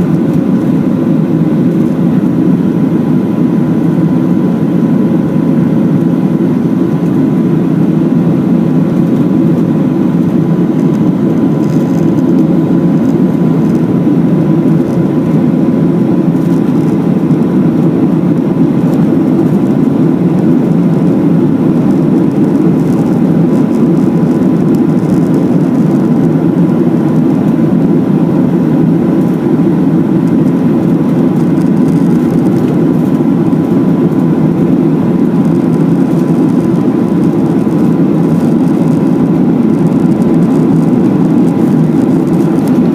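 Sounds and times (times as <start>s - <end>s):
faint steady whine: 0.0s - 42.9s
jet engine and airflow roar: 0.0s - 42.9s.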